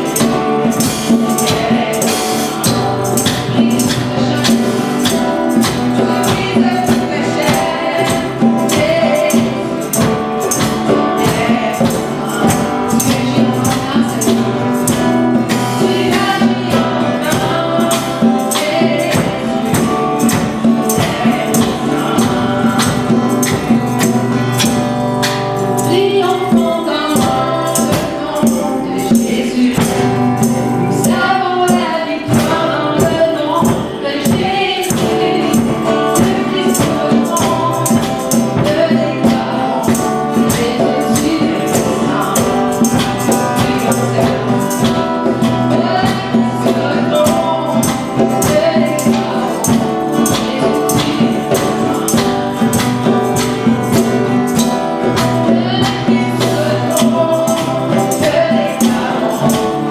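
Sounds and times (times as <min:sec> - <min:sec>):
acoustic guitar: 0:00.0 - 0:59.9
tambourine struck on the beat: 0:00.0 - 0:59.9
women singing: 0:00.0 - 0:59.9.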